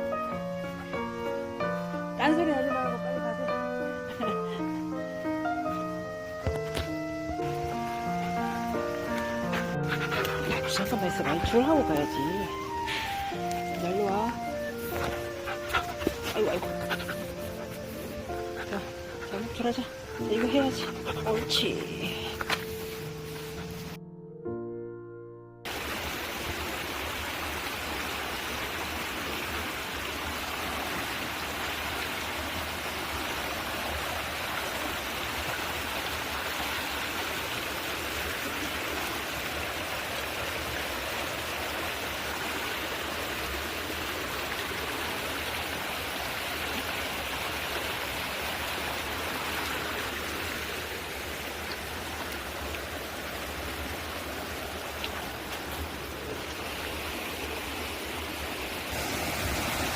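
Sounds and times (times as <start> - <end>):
stream flowing: 0.0 - 24.0, 25.6 - 59.9.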